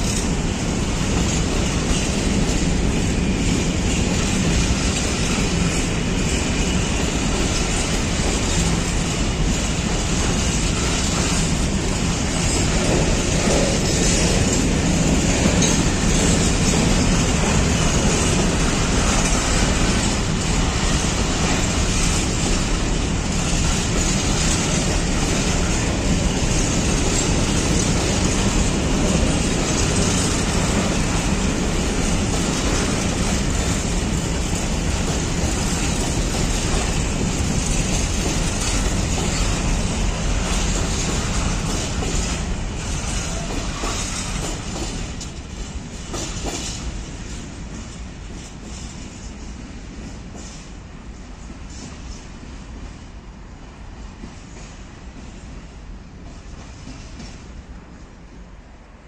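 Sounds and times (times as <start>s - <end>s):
clacks over rail joints: 0.0s - 50.7s, 56.2s - 57.6s
freight train wheels rumbling: 0.0s - 59.0s.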